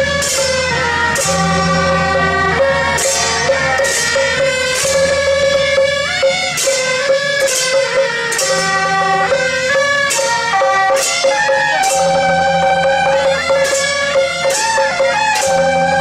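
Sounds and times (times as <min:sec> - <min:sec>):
double-reed horns playing melody: 0:00.0 - 0:16.0
drum and crashing percussion: 0:00.0 - 0:16.0.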